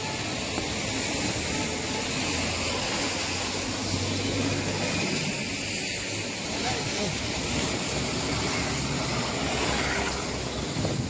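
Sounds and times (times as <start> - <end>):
rain: 0.0 - 11.0
traffic on wet road: 0.0 - 11.0.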